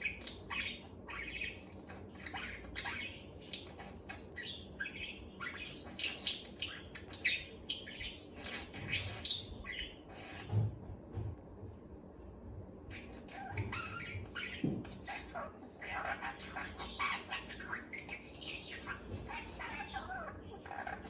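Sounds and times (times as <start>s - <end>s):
budgerigar chirping and warbling: 0.0s - 10.6s, 12.9s - 21.0s.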